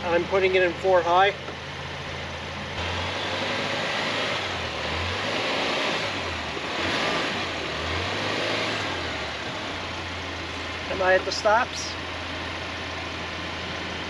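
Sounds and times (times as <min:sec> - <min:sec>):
pickup engine at low revs: 0:00.0 - 0:14.0.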